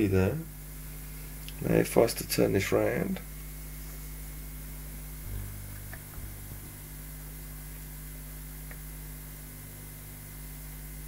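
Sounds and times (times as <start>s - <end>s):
constant hiss: 0.0s - 9.0s
electrical mains hum: 0.0s - 11.0s.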